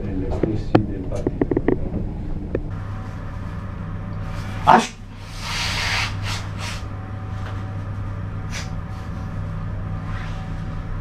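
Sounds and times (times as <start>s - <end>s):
elevator car humming: 0.0s - 11.0s.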